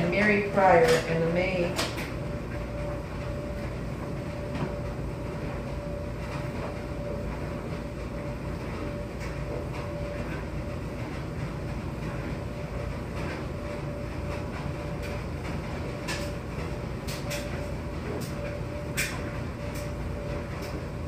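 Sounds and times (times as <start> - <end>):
tumble dryer rumbling: 0.0 - 21.0.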